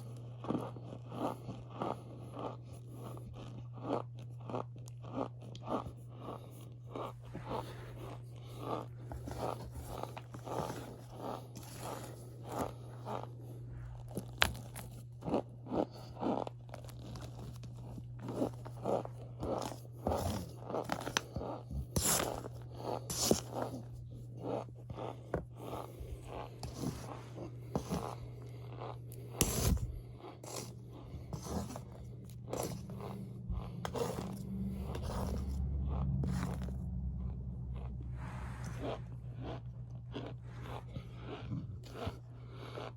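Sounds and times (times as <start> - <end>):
cornstarch crunchy squeaks: 0.0 - 42.9.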